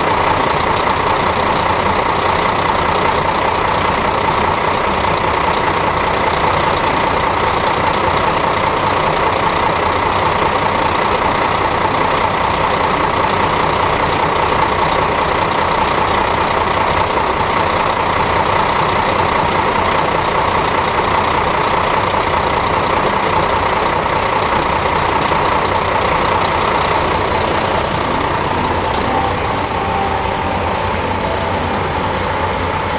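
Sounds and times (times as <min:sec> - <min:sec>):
diesel railcar engine idling: 0:00.0 - 0:32.9.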